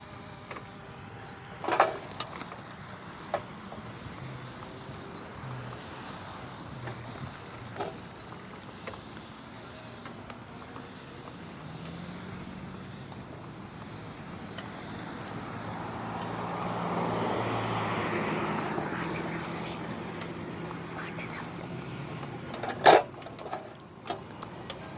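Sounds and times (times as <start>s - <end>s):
vehicle humming: 0.0s - 24.9s.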